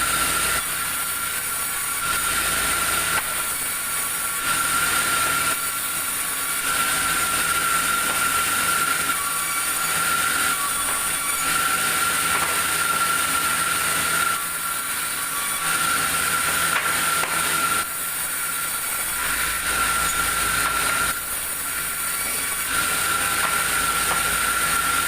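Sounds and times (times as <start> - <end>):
sawmill saw cutting log: 0.0 - 25.0.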